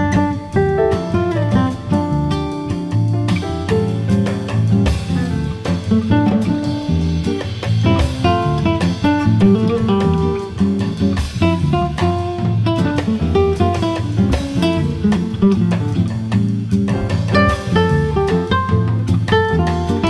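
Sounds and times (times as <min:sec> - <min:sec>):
plucked acoustic guitar: 0:00.0 - 0:20.0
steady bass line: 0:00.0 - 0:20.0.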